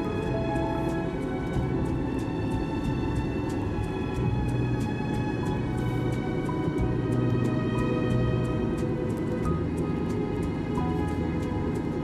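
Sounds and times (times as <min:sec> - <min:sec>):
sustained orchestral chords: 0:00.0 - 0:12.0.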